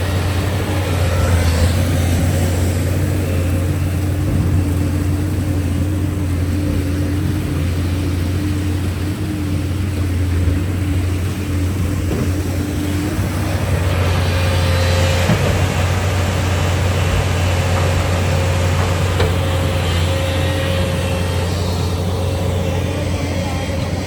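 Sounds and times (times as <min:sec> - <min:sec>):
heavy machine engine humming: 0:00.0 - 0:24.0
rushing noise: 0:00.0 - 0:24.0.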